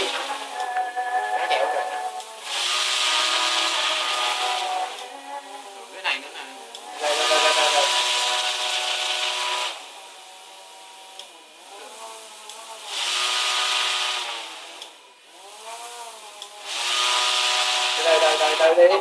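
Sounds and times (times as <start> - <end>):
small electric motors whirring: 0.0 - 19.0.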